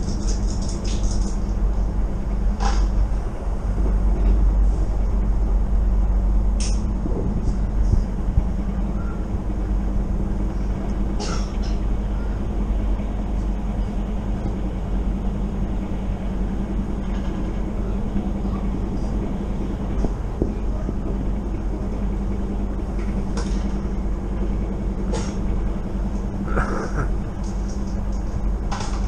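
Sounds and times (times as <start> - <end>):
constant low hum: 0.0 - 29.0
train wheels rumbling on track: 0.0 - 29.0.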